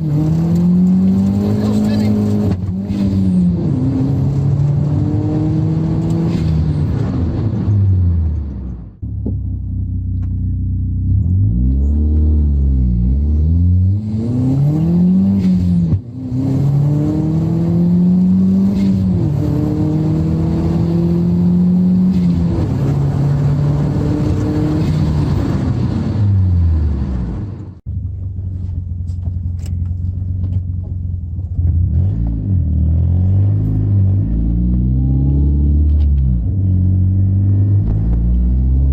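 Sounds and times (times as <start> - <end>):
car engine accelerating and revving: 0.0 - 27.8, 29.2 - 38.9.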